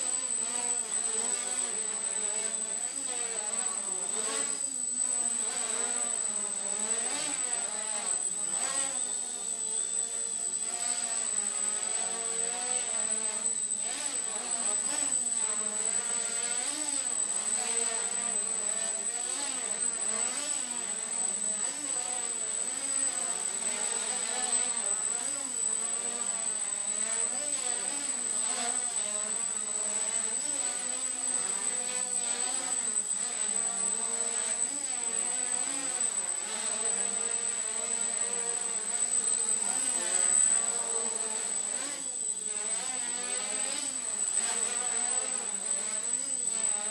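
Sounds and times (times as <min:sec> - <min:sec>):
quadcopter motors buzzing: 0:00.0 - 0:46.9.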